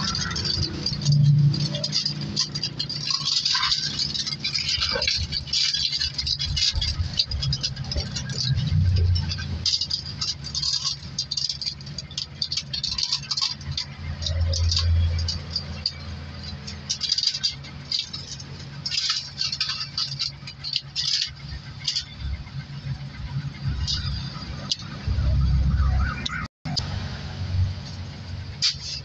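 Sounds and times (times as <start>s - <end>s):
aluminium foil crinkling: 0.0s - 25.3s.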